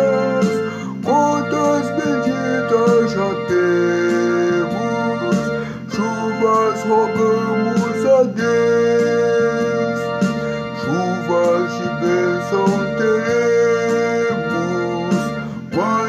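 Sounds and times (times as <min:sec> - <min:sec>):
hymn on keyboard organ: 0:00.0 - 0:16.0.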